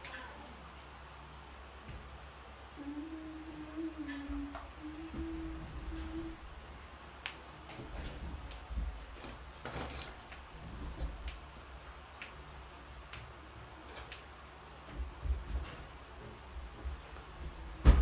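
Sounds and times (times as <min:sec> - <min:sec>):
low room rumble: 0:00.0 - 0:18.0.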